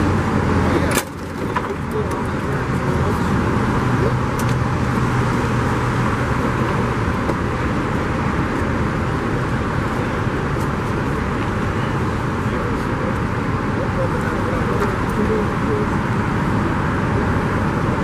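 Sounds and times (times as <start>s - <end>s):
constant low hum: 0.0s - 18.0s
motor vehicle rushing noise: 0.0s - 18.0s.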